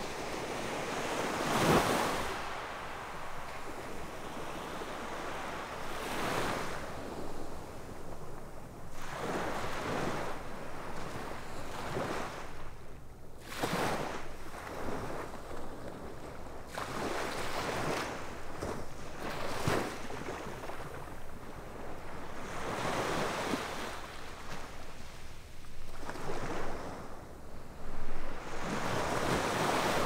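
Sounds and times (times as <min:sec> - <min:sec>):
sea waves breaking on beach: 0:00.0 - 0:12.8, 0:13.4 - 0:30.0.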